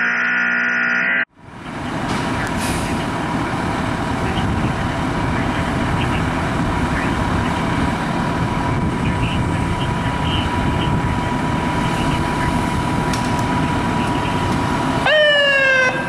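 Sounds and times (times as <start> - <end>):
diesel engine idling: 1.3 - 16.0.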